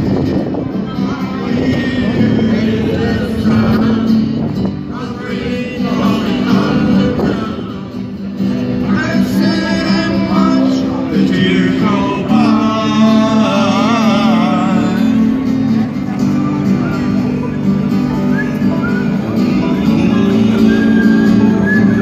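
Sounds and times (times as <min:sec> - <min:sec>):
acoustic guitar band with singing: 0:00.0 - 0:22.0.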